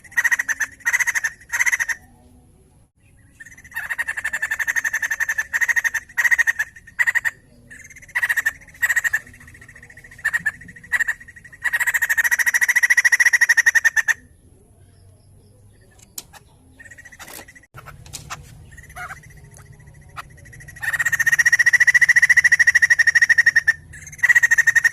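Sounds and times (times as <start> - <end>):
bird singing pulsed trills: 0.0 - 17.8, 18.6 - 24.9
faint bird calls: 3.3 - 24.9.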